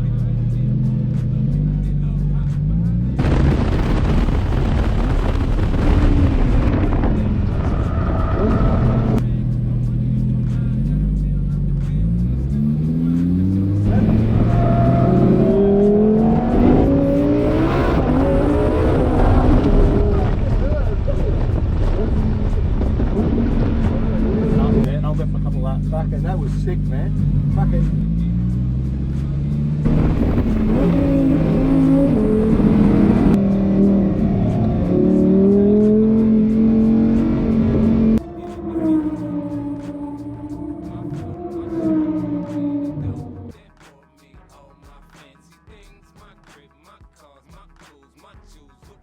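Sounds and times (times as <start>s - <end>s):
car engine accelerating hard: 0.0s - 43.5s.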